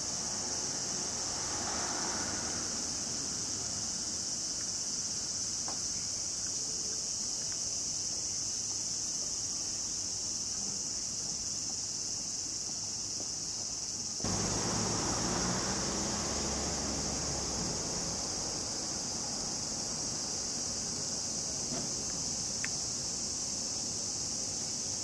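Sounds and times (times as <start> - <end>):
insects singing: 2.4 - 25.0.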